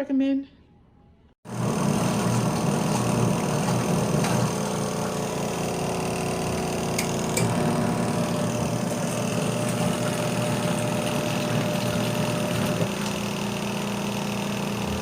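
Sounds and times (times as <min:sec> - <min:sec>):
washing machine motor hum: 0:01.4 - 0:15.0.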